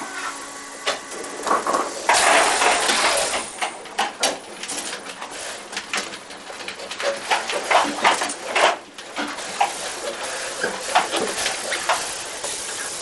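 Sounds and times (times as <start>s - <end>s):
metal clanks and clatters: 1.0s - 13.0s.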